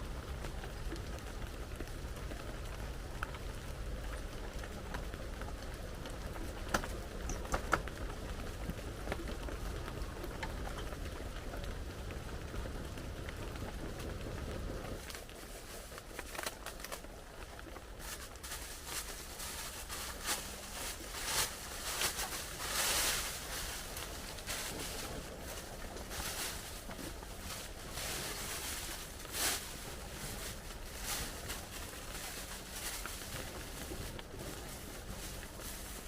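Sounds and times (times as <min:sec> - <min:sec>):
raindrop ticks: 0:00.0 - 0:35.8
steady rain falling: 0:00.0 - 0:36.0.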